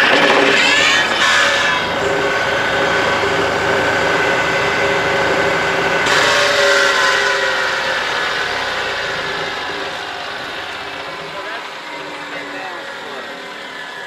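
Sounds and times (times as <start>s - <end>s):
diesel tractor engine running: 0.0s - 14.0s
hydraulic pump whine: 0.0s - 14.0s.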